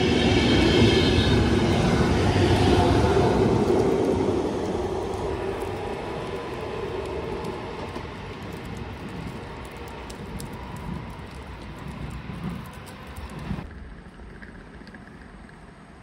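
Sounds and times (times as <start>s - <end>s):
train rumble and wheel noise: 0.0s - 13.7s.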